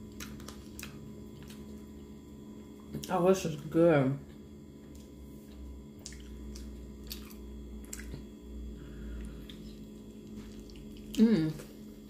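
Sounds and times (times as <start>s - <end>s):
person chewing wet food: 0.0s - 3.1s, 4.8s - 12.0s
steady low hum: 0.0s - 12.0s.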